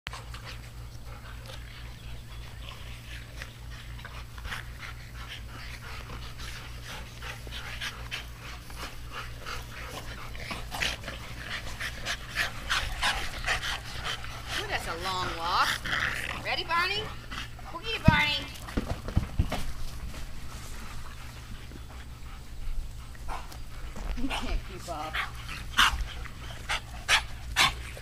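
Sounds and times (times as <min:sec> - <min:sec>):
dogs panting: 0:00.1 - 0:28.0
steady low hum: 0:00.1 - 0:28.0.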